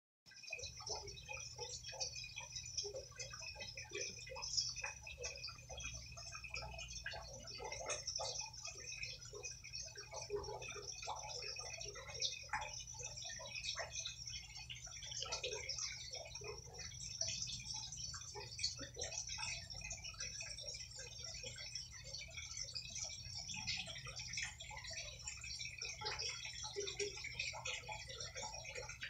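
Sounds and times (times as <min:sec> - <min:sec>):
tortoise chewing wet food: 0:00.4 - 0:29.0.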